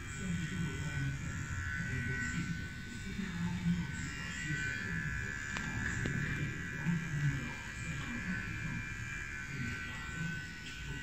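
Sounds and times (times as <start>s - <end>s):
beard trimmer whining: 0.0s - 11.0s.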